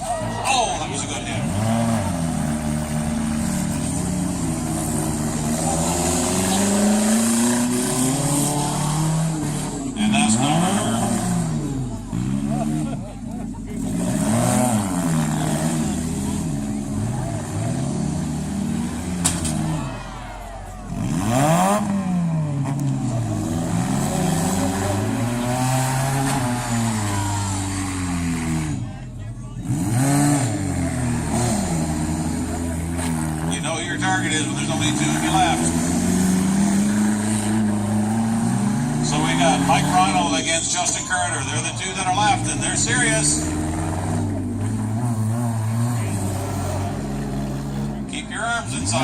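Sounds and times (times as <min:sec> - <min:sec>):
car engines revving hard: 0:00.0 - 0:49.0.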